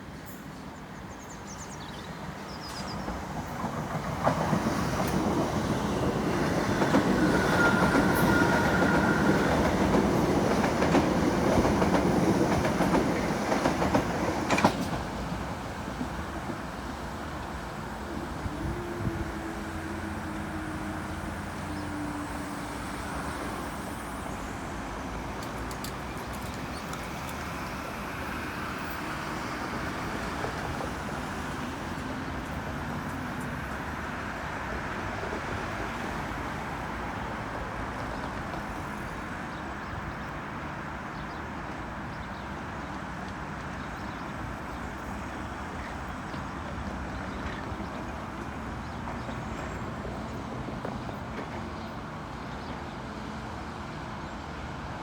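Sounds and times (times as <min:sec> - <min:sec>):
traffic rumble: 0:03.0 - 0:54.8.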